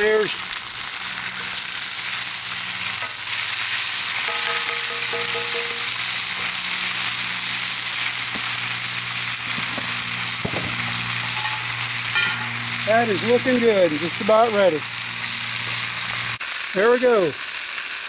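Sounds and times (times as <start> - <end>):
stew sizzling in a pot: 0.0 - 18.0.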